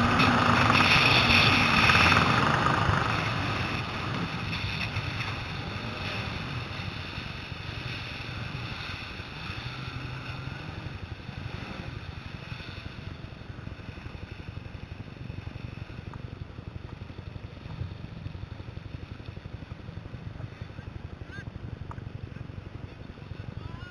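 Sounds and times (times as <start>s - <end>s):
jet ski engines running: 0.0s - 23.9s.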